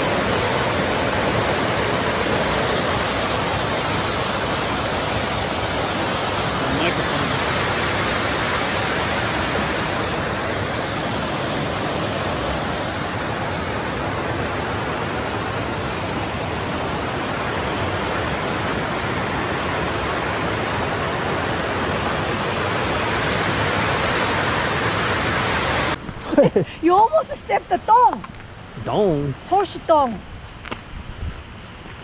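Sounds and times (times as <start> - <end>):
water rushing over weir: 0.0 - 26.0.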